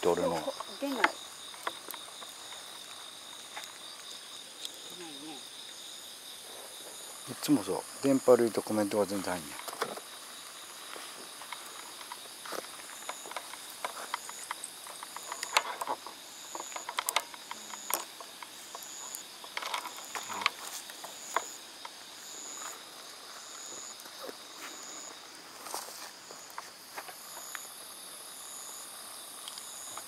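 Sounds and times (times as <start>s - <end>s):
high insect hum: 0.0s - 30.0s
insect chirping: 0.0s - 30.0s.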